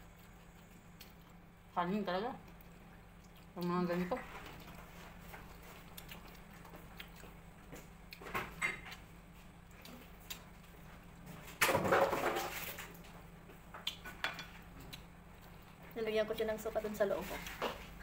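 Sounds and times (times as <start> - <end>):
crunching and chewing: 0.0 - 1.8, 2.4 - 11.6, 12.2 - 16.5.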